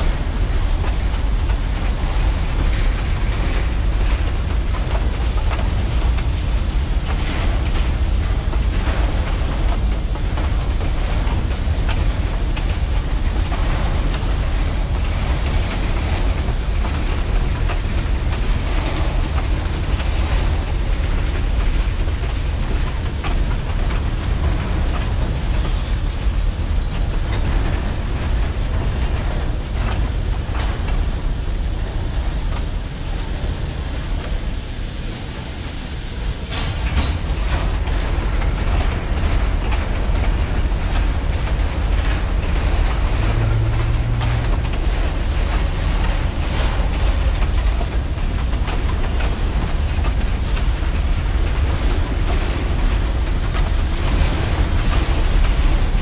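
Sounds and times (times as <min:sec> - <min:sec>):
railway cars rolling past: 0:00.0 - 0:56.0
wheels clicking over rail joints: 0:00.0 - 0:56.0.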